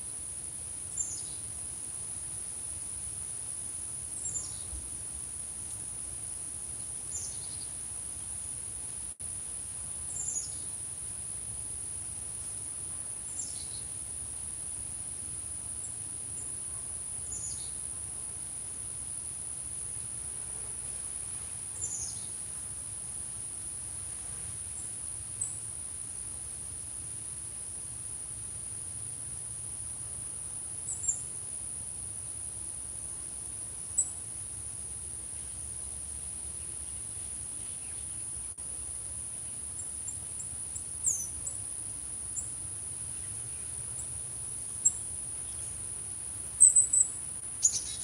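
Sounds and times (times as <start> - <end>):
crickets droning: 0.0 - 48.0.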